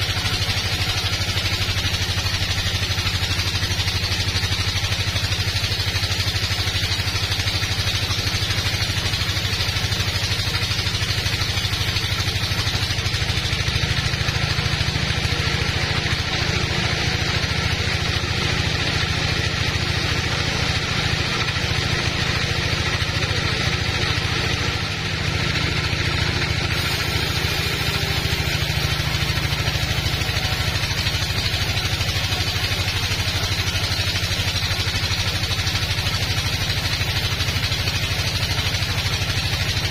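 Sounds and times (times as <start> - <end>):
saw blade cutting log hiss: 0.0 - 21.8, 22.4 - 39.9
band saw machine hum: 0.0 - 39.9.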